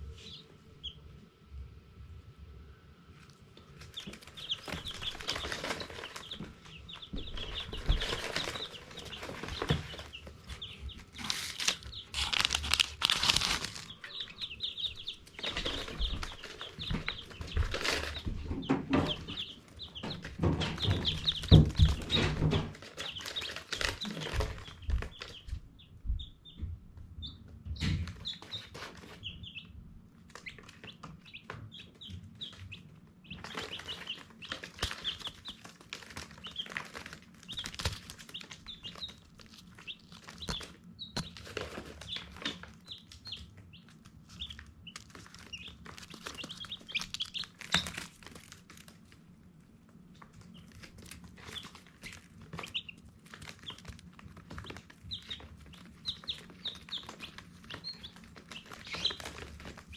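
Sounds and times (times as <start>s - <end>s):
baby chicks peeping: 0.0s - 59.9s
rustling and fluttering: 3.7s - 25.5s, 30.2s - 49.3s, 50.0s - 59.9s.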